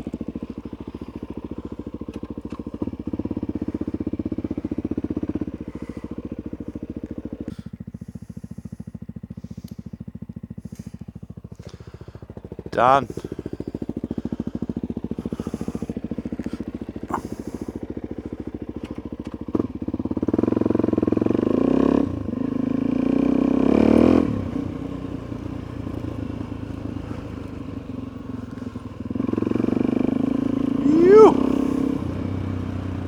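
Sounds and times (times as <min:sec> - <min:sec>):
dirt bike engine: 0:00.0 - 0:33.0.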